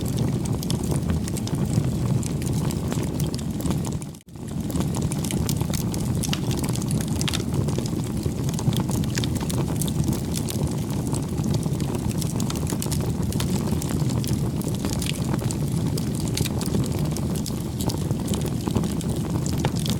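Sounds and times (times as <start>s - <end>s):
bonfire flames rumbling: 0.0s - 19.9s
fire crackling and popping: 0.0s - 19.9s.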